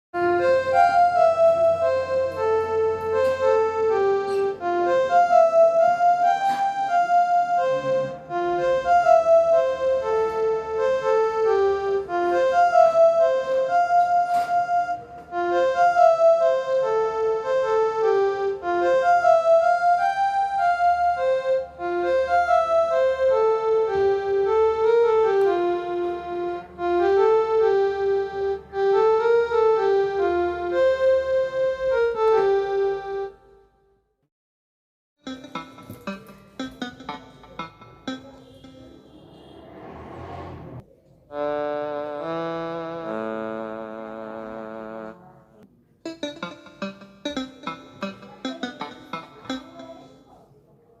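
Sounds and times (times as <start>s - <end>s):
piano-like ringtone melody: 0.2s - 33.5s, 35.2s - 39.6s, 46.1s - 50.4s.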